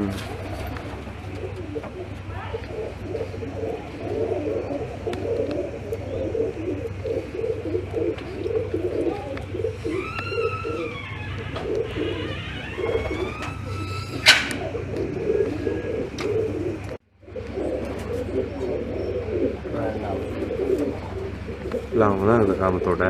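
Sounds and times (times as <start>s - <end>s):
pigeons cooing: 0.0s - 23.0s
higher arching bird call: 1.4s - 23.0s.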